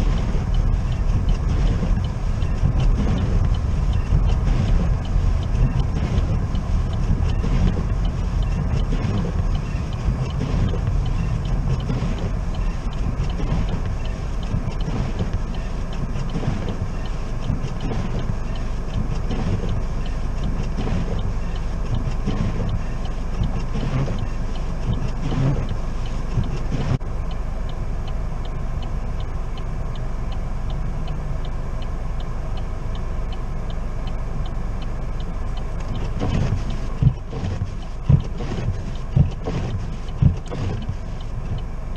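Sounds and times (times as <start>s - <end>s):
car engine and road rumble: 0.0s - 41.9s
faint ticking: 0.0s - 41.9s.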